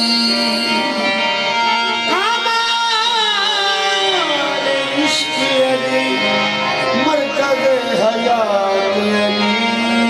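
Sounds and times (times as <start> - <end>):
harmonium chords: 0.0 - 10.0.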